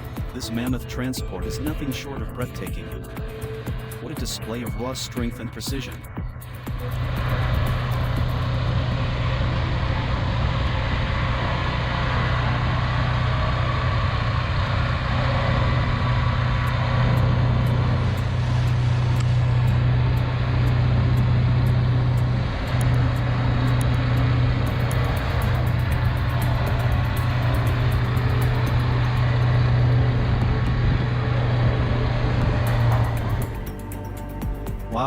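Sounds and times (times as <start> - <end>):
truck engine droning: 0.0 - 35.0.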